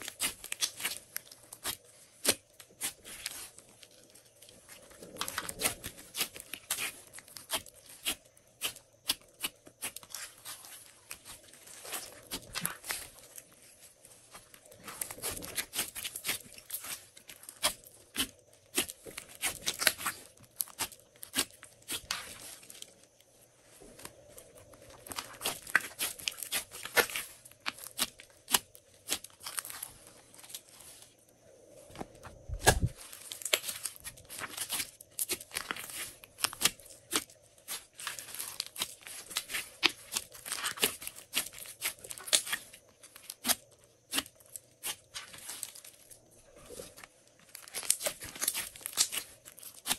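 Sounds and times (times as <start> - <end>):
slime crackling and popping: 0.0 - 13.2, 14.6 - 22.8, 24.9 - 29.9, 32.5 - 46.0, 47.5 - 49.9.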